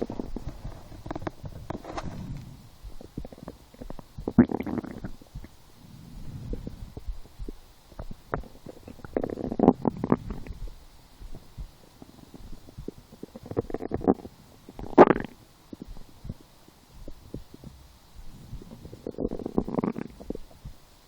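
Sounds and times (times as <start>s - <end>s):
stomach gurgling and rumbling: 0.0s - 21.0s.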